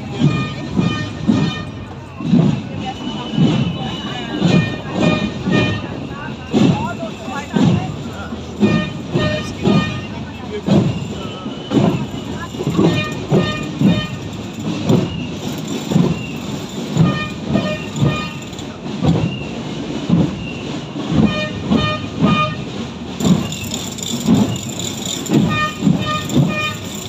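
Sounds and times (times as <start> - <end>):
rhythmic drumming: 0.0 - 27.0.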